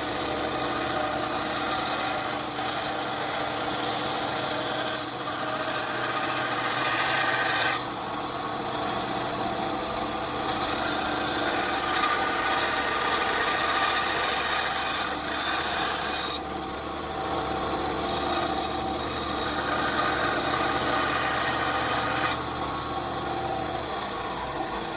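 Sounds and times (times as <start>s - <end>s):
bandsaw cutting wood: 0.0s - 24.9s.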